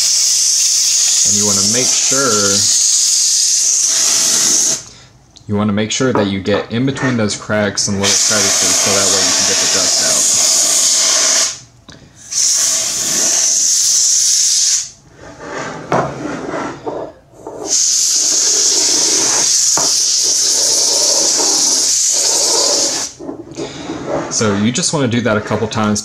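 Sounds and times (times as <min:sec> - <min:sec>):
compressed gas duster hissing: 0:00.0 - 0:05.2, 0:07.9 - 0:15.7, 0:16.9 - 0:25.9.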